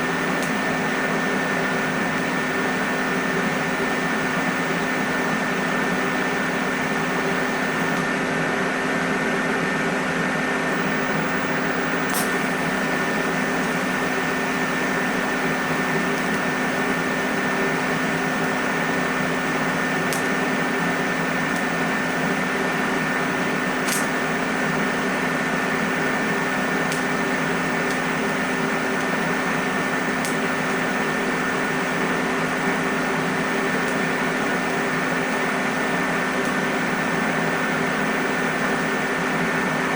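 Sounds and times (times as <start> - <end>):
machine hum with hiss: 0.0 - 39.9.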